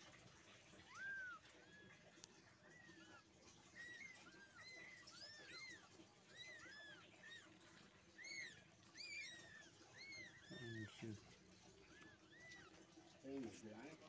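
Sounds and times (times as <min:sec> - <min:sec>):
kittens mewing: 0:00.6 - 0:13.2.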